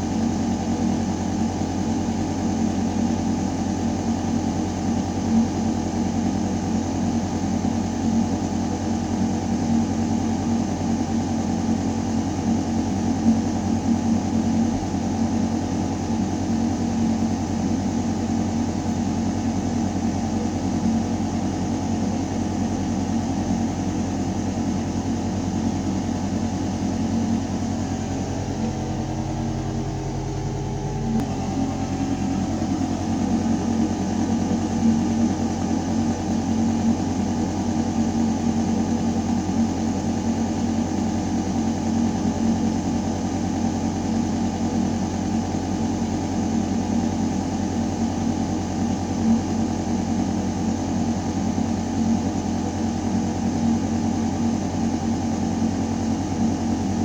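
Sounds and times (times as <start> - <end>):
ventilation system humming: 0.0 - 57.0.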